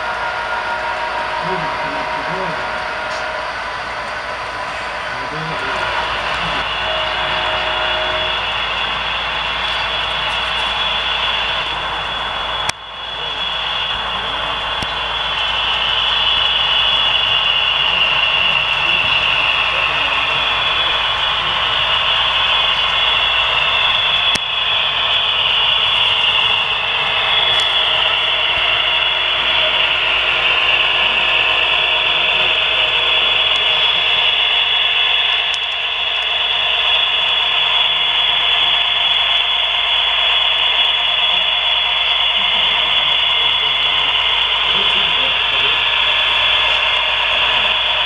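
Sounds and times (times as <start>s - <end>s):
model train running on track: 0.0s - 48.0s.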